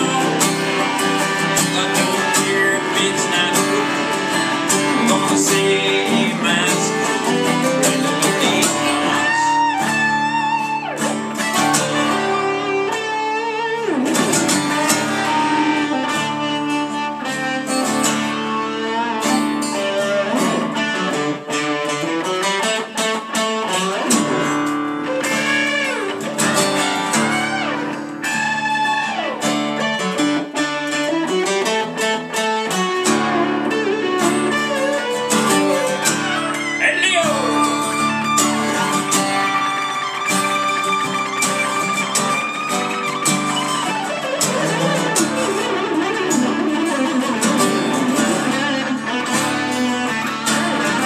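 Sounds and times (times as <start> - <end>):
band backing: 0.0 - 51.0
lead guitar solo: 0.0 - 51.0.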